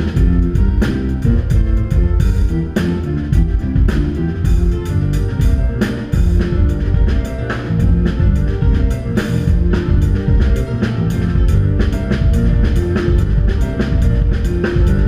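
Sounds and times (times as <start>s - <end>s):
bass guitar: 0.0s - 15.0s
drum kit beat: 0.0s - 15.0s
keyboard: 0.0s - 15.0s.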